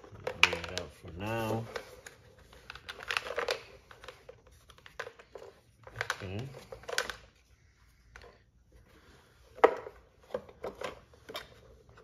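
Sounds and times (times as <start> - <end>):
small hard parts clicking and knocking: 0.0 - 7.4, 9.5 - 12.0.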